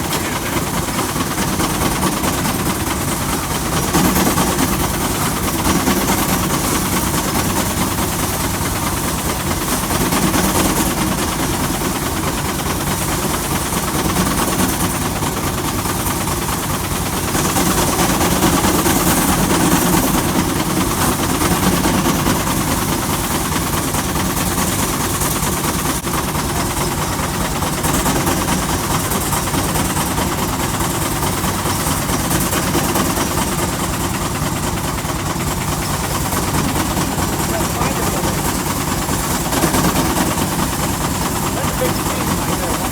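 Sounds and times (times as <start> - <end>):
threshing machine running: 0.0 - 42.9.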